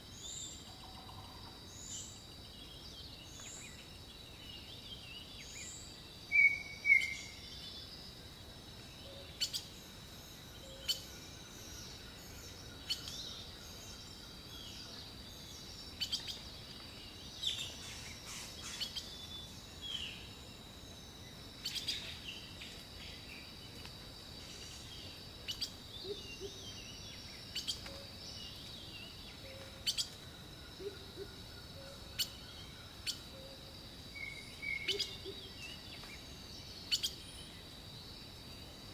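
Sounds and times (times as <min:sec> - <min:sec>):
small birds chirping: 0:00.0 - 0:08.2, 0:08.8 - 0:33.5, 0:34.1 - 0:37.9.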